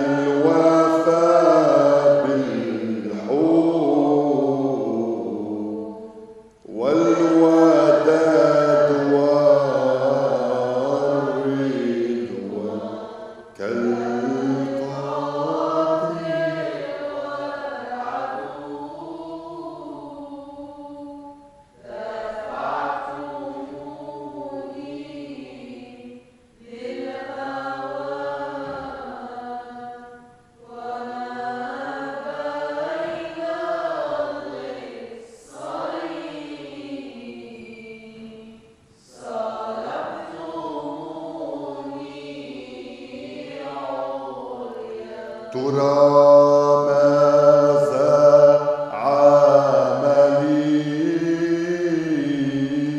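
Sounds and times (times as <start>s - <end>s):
voices singing a hymn: 0.0s - 52.9s.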